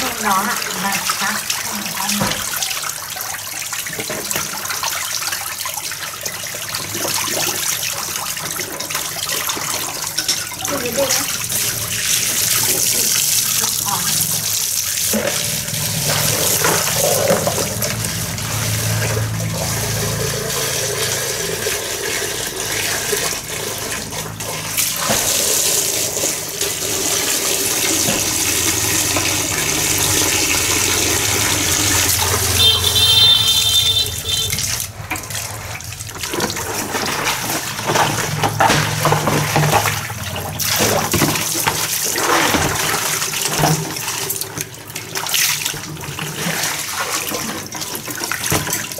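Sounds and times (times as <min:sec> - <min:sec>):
hose water splashing into basins: 0:00.0 - 0:48.9.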